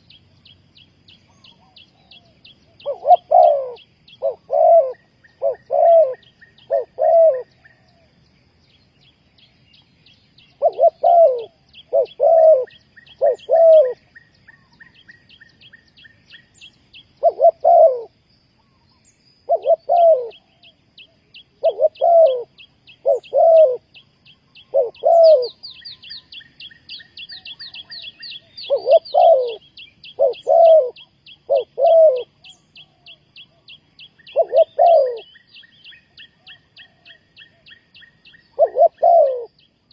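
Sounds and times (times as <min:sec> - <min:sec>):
small bird chirping faintly: 0:00.0 - 0:39.9
dove cooing: 0:01.3 - 0:08.1, 0:10.4 - 0:15.1, 0:17.2 - 0:18.7, 0:19.4 - 0:24.0, 0:24.6 - 0:35.4, 0:36.0 - 0:39.6.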